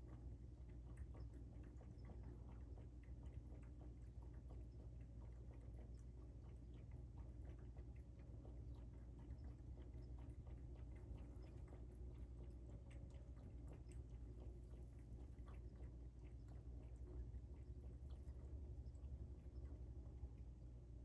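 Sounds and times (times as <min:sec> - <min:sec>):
faint low rumble: 0:00.0 - 0:21.0
soft ticks and clicks: 0:00.0 - 0:21.0.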